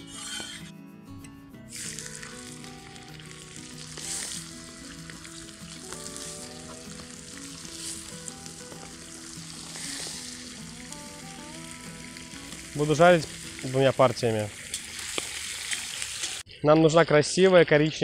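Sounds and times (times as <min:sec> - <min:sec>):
chicken sizzling in hot oil: 0:00.0 - 0:00.6, 0:01.7 - 0:16.5.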